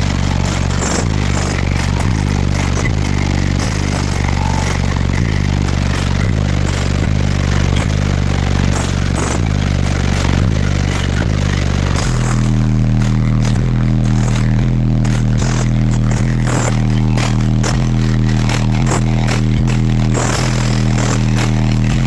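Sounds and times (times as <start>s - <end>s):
bass-heavy music through subwoofers: 0.0s - 22.0s
rattling and buzzing: 0.0s - 22.0s.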